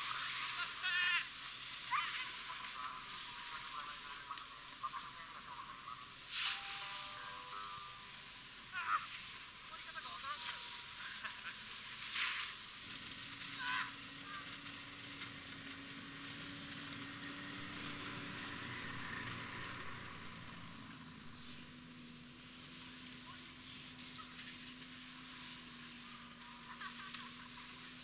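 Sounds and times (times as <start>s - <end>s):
steady hissing noise: 0.0s - 28.0s.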